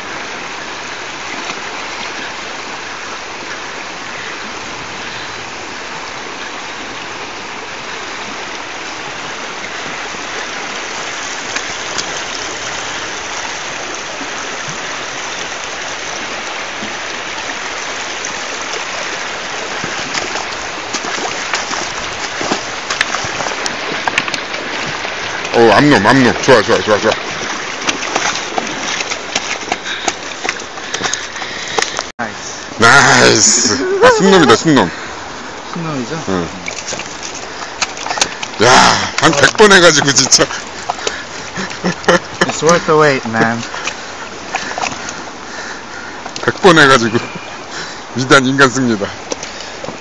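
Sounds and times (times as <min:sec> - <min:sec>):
river rushing over riffles: 0:00.0 - 0:50.0.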